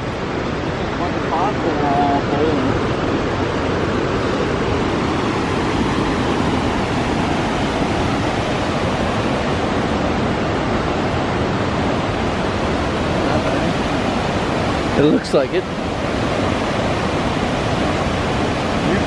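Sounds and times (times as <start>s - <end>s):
waterfalls rushing: 0.0s - 19.0s.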